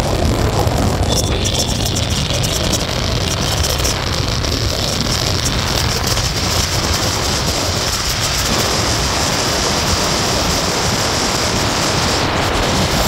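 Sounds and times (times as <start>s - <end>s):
motorbike and road noise: 0.0s - 13.0s
wind rushing over microphone: 0.0s - 13.0s.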